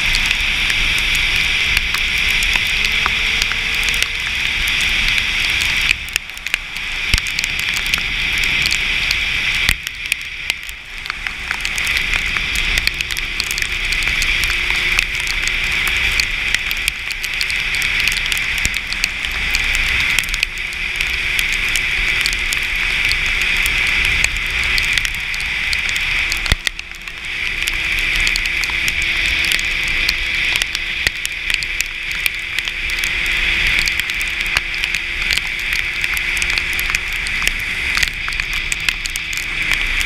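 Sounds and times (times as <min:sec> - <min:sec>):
raindrops ticking on camera: 0:00.0 - 0:40.0.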